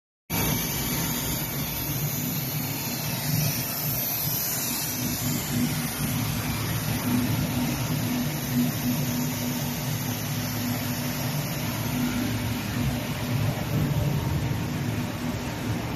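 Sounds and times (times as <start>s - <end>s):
hiss: 0.3s - 15.3s
machine drone with motor hum: 0.3s - 15.9s.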